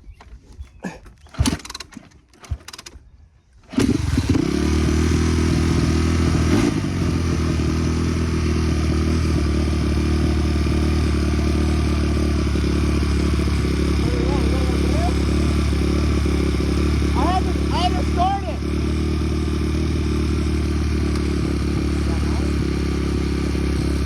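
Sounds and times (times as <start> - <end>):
dirt bike engine idling: 3.8 - 24.0.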